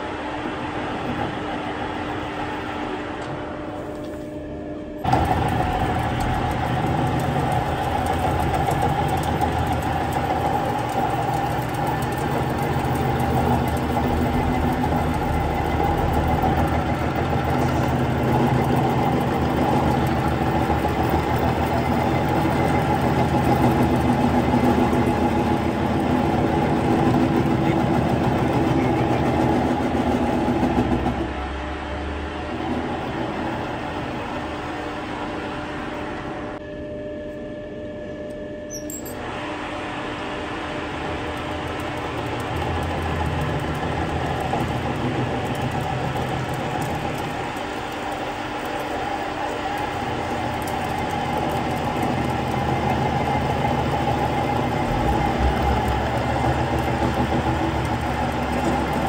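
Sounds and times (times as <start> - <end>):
metal lathe running: 5.0 - 36.6, 39.1 - 59.0.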